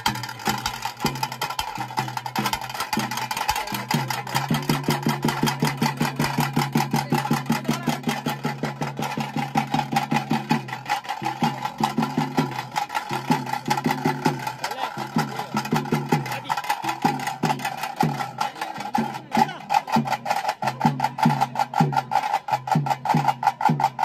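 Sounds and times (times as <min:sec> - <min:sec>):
drums beaten with sticks: 0:00.0 - 0:24.0.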